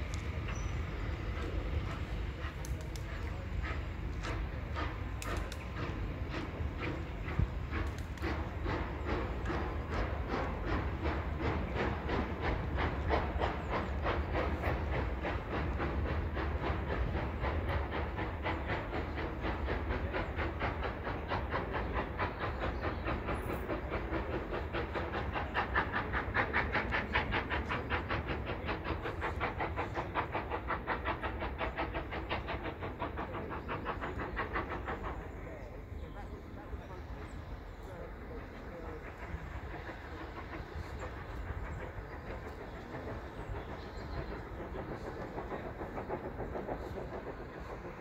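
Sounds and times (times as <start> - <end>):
steam locomotive exhaust beating: 0.0 - 48.0.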